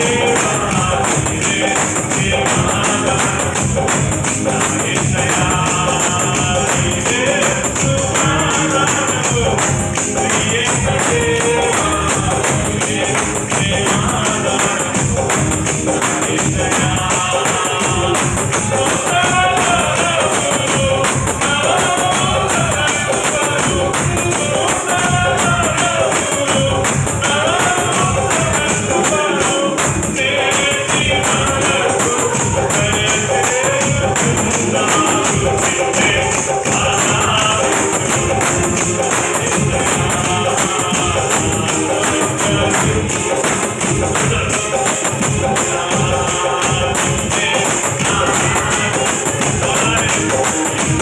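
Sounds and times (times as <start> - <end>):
jingling percussion beat: 0.0 - 51.0
man singing into a microphone: 0.0 - 51.0.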